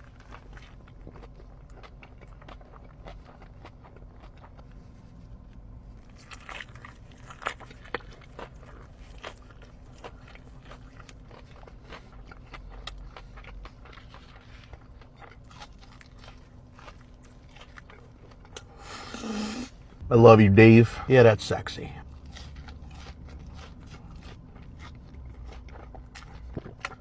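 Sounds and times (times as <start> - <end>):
crunchy chewing of fried food: 0.0 - 20.0, 21.1 - 27.0.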